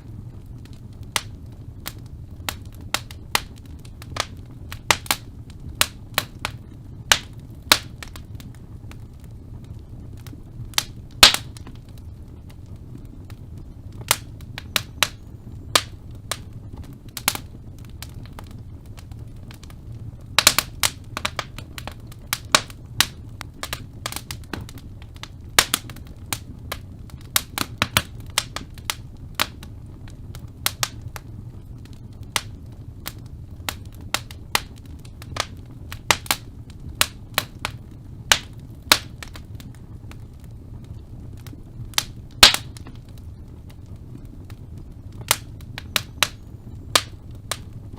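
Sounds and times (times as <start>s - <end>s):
fire pops and snaps: 0.0s - 47.9s
low rumble of flames: 0.0s - 47.9s
wood fire crackling: 0.0s - 47.9s.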